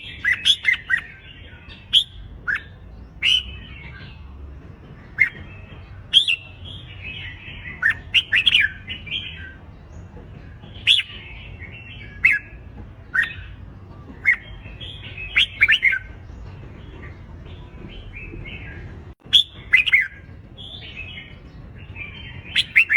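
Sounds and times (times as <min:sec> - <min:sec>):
birds chattering: 0:00.0 - 0:22.9
birds whistling song: 0:00.0 - 0:22.9.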